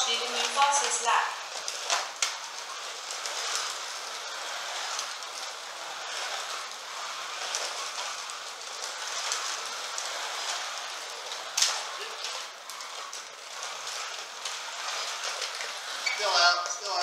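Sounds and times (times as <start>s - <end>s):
slot cars hissing on track: 0.0s - 17.0s.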